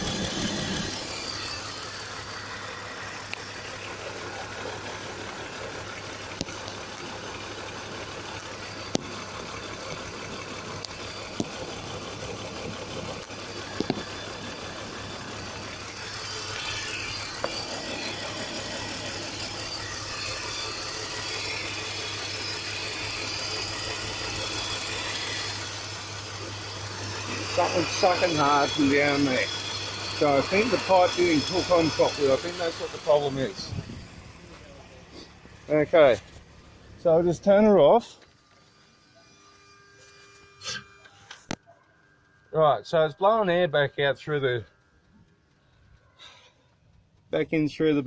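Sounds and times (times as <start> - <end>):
car engine idling: 0.0 - 40.3, 41.3 - 48.0.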